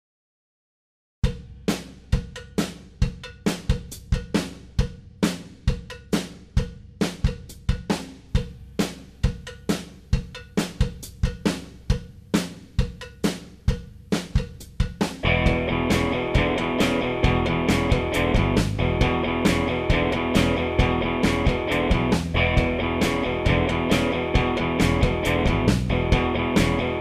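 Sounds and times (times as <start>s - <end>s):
drum kit rock beat: 1.2s - 27.0s.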